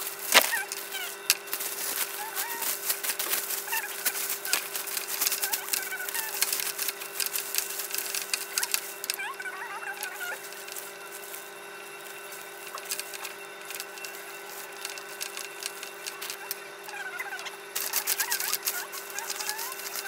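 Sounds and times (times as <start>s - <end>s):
cellophane crinkling: 0.0s - 20.0s
warbling bird calls: 0.0s - 20.0s.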